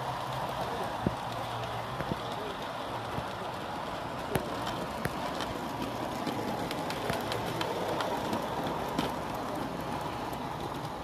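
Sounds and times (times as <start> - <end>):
model train wheels rumbling on rail: 0.0 - 11.0
small clicks of train wheels: 0.0 - 11.0.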